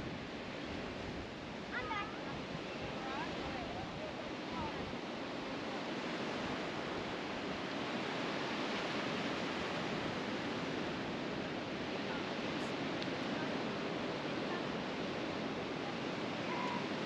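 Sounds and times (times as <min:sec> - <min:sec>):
ocean surf washing onto beach: 0:00.0 - 0:17.0.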